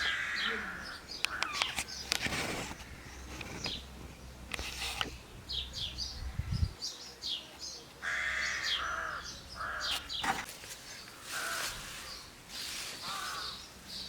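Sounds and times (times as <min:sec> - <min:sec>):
longer lower bird calls: 0:00.0 - 0:03.9, 0:05.5 - 0:14.0
birds chirping: 0:00.0 - 0:14.0.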